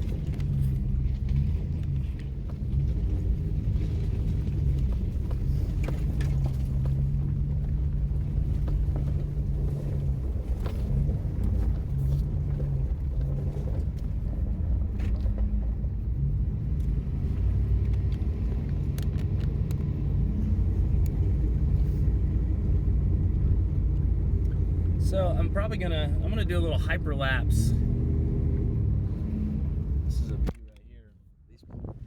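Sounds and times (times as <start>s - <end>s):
car engine rumble: 0.0s - 32.0s
road noise: 0.0s - 32.0s.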